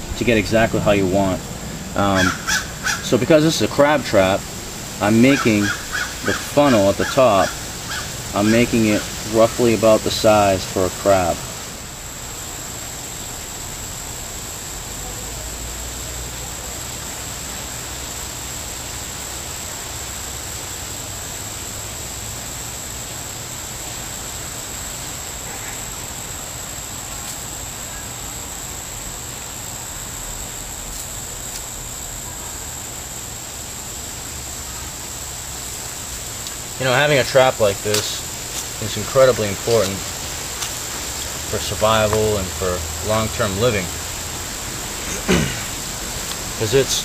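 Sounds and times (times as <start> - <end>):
high-pitched whine: 0.0 - 47.0
steady background hiss: 0.0 - 47.0.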